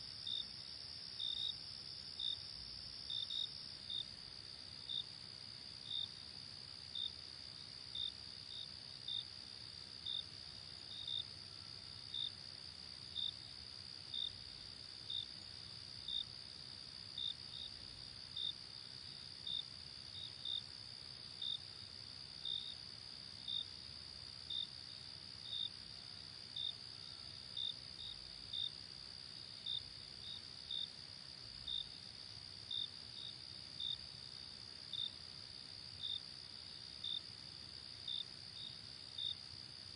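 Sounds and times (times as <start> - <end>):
cricket chirping: 0.0 - 39.9
faint low hiss: 0.0 - 39.9.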